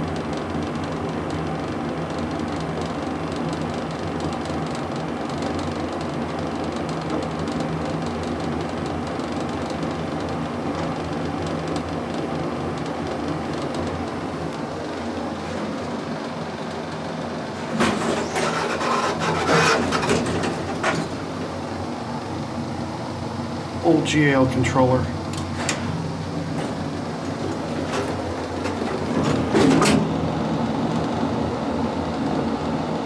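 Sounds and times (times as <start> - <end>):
elevator hum and rumble: 0.0 - 33.0.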